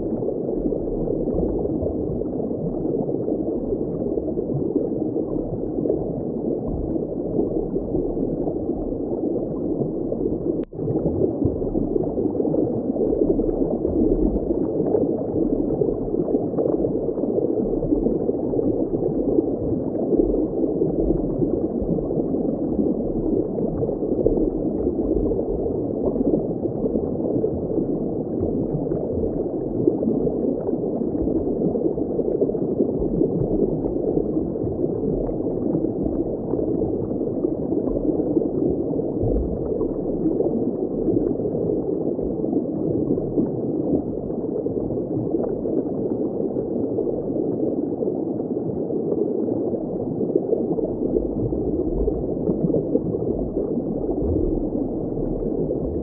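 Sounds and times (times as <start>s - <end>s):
muffled bubbling water: 0.0s - 56.0s.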